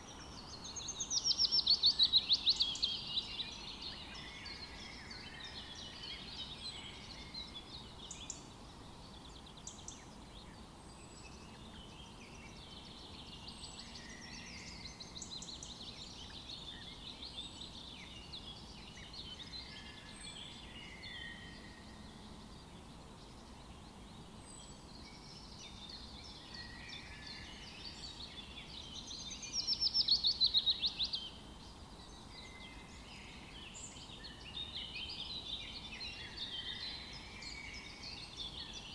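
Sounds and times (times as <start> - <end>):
faint background hiss: 0.0 - 38.9
songbirds singing and calling: 0.0 - 38.9.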